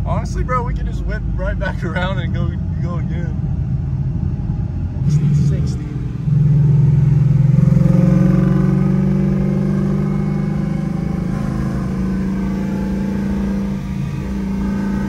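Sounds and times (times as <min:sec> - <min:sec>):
car engine drone from inside: 0:00.0 - 0:15.0.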